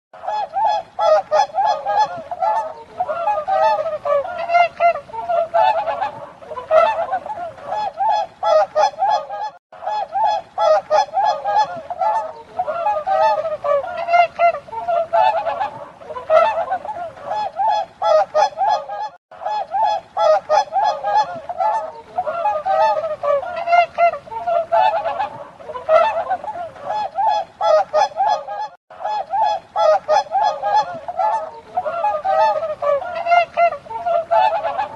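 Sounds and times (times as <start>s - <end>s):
swans honking: 0.2s - 34.9s.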